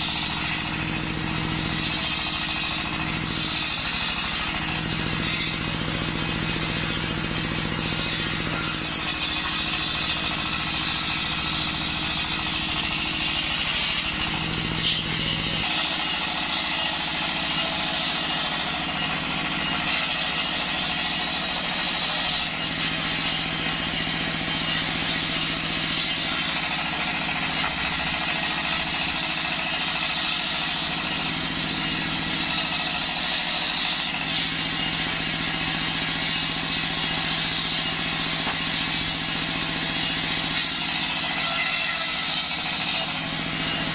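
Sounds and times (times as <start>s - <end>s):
circular saw ripping log: 0.0s - 43.9s
diesel engine running: 0.0s - 43.9s.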